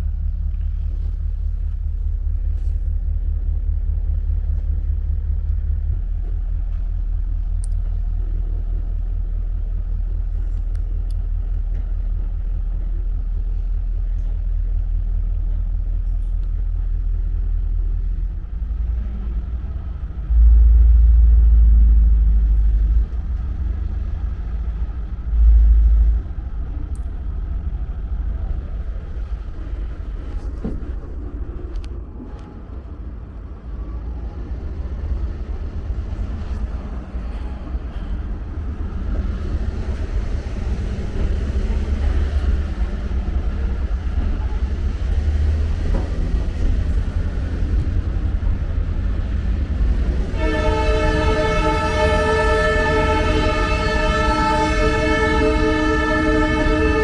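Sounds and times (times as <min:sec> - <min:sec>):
loud low rumbles: 0:00.0 - 0:57.0
train rumbling: 0:00.0 - 0:57.0.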